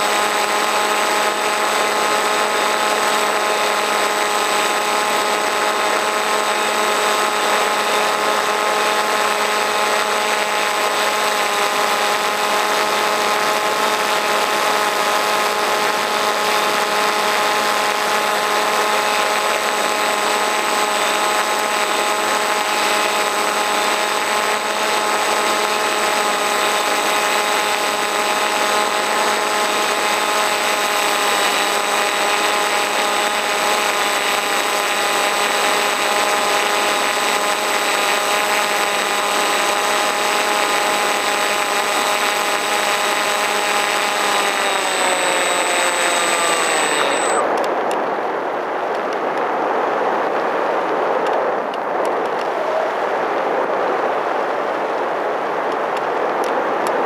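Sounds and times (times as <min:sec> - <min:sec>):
model plane motor whine: 0:00.0 - 0:47.6.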